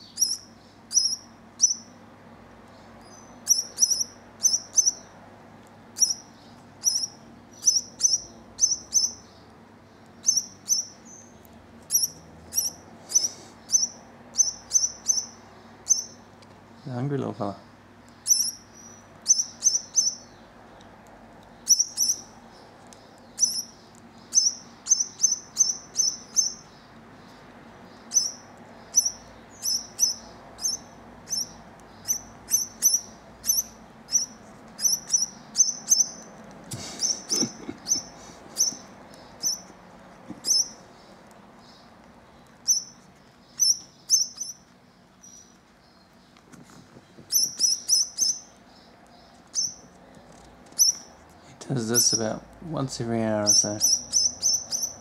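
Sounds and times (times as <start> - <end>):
parrot chick begging chirps: 0.0 - 2.0, 3.0 - 5.2, 5.9 - 16.4, 18.1 - 20.5, 21.6 - 41.9, 42.6 - 46.2, 47.2 - 49.9, 50.7 - 51.2, 51.8 - 52.4, 53.4 - 55.0.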